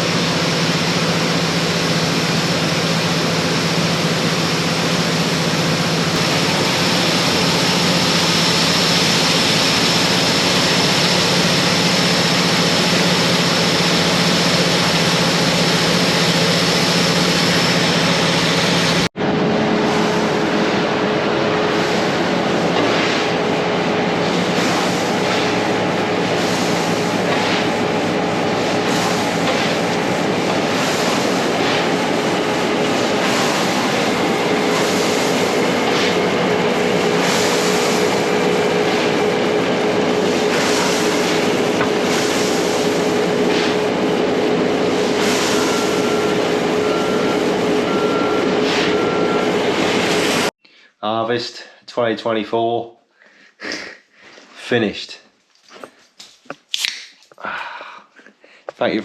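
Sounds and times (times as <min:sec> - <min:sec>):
farm machinery engine drone: 0:00.0 - 0:50.5.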